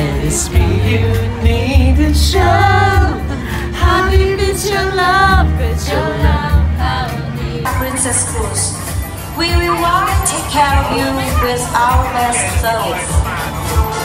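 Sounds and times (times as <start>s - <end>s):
heavy pulsing bass beat: 0.0s - 14.0s.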